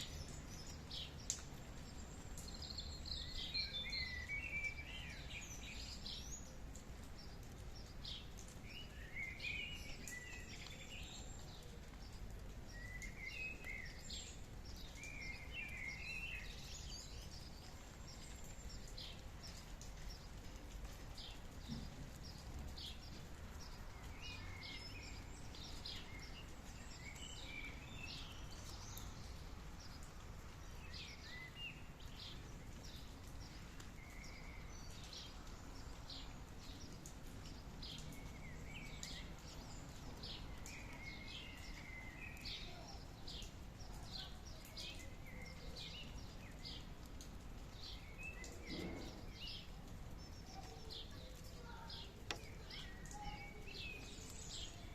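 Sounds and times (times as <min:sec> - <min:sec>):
low natural background noise: 0:00.0 - 0:54.9
small birds chirping: 0:00.0 - 0:54.9.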